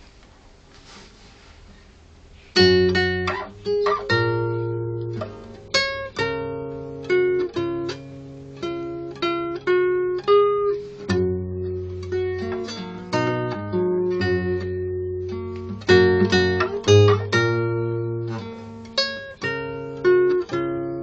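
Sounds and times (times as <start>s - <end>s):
fingerpicked classical guitar: 2.5s - 21.0s.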